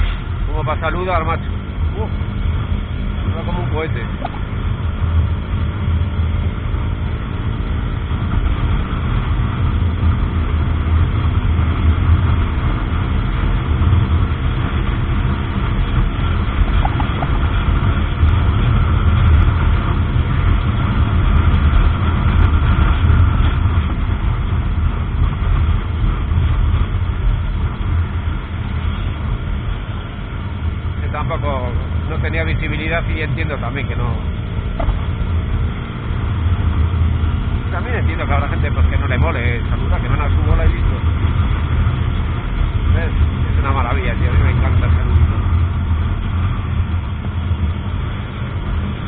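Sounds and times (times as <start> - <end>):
motorcycle engine cruising: 0.0 - 49.0
wind rushing on microphone: 1.3 - 49.0.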